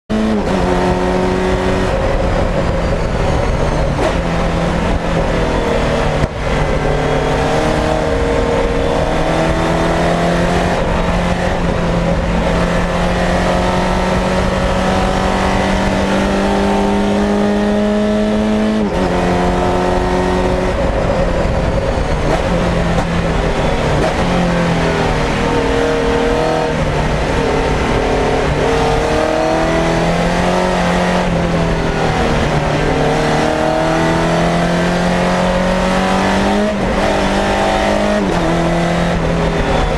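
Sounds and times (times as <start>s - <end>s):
race car engine revving: 0.1s - 39.9s.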